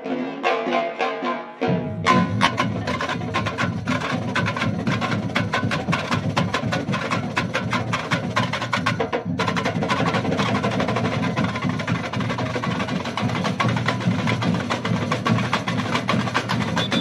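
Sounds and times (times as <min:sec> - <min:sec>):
samba drumming: 0:00.0 - 0:17.0.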